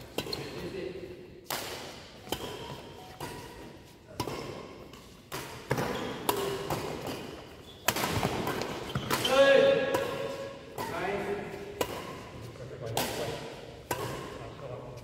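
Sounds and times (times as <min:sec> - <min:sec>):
rackets hitting shuttlecock: 0:01.4 - 0:14.8.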